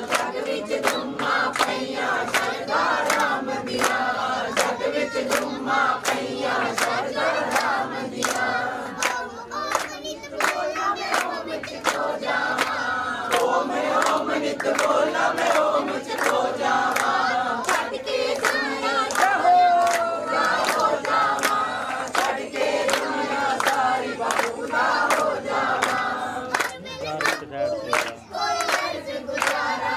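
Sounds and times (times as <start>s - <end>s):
group singing devotional song: 0.0s - 29.9s
hand claps: 0.0s - 29.9s.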